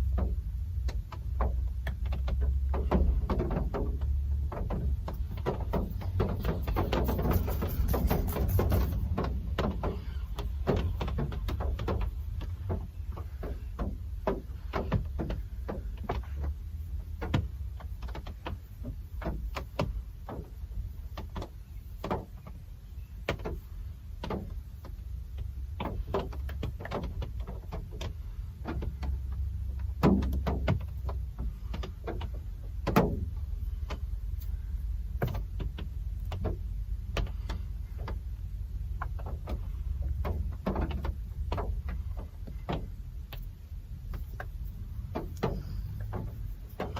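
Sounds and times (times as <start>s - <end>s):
rain drips and taps: 0.0s - 46.9s
steady low rumble: 0.0s - 46.9s.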